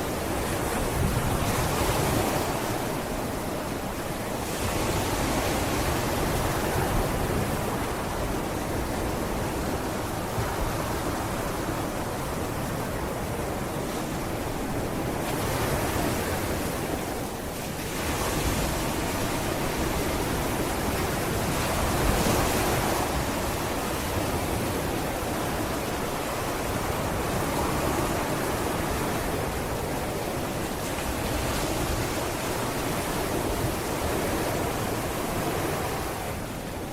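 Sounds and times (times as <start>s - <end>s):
sea waves breaking: 0.0s - 36.9s
wind on microphone: 0.0s - 36.9s.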